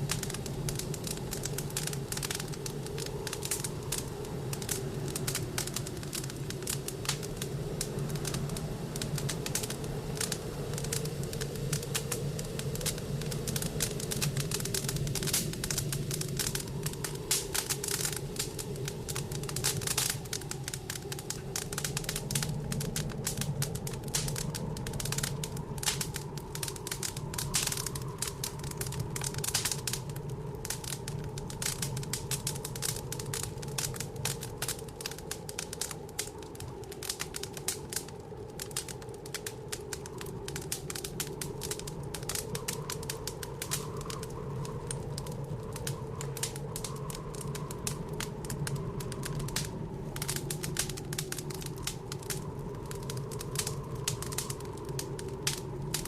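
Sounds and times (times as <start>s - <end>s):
blizzard wind drone: 0.0s - 56.0s
wood fire crackling: 0.0s - 56.0s.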